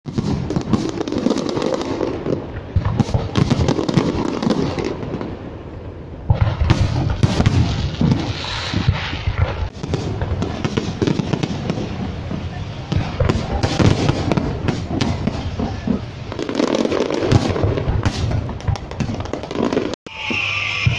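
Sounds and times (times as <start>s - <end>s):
fireworks bangs and crackle: 0.0s - 20.9s.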